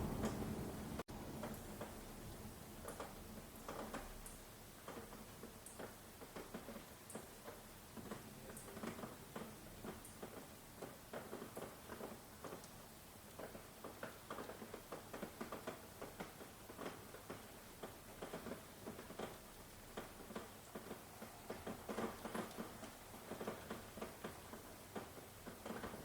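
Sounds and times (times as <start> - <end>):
faint steady hiss: 0.0 - 26.0
raindrops pattering: 0.0 - 26.0.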